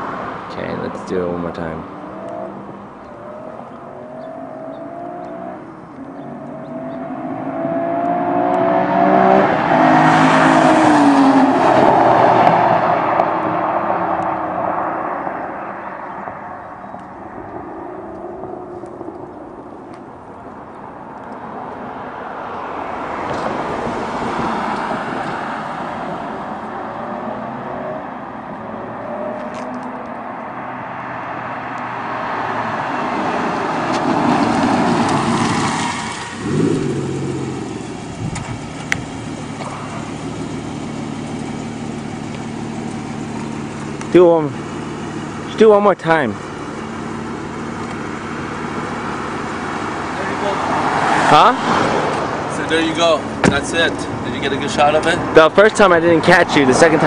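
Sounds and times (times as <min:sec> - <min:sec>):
vehicle passing: 0:00.0 - 0:57.0
sports car accelerating past: 0:01.8 - 0:45.6, 0:46.4 - 0:57.0.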